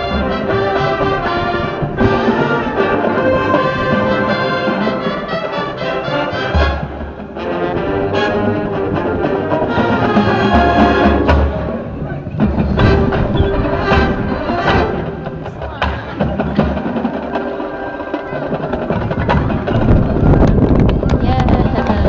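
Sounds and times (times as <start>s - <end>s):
marching band brass chords: 0.0s - 20.9s.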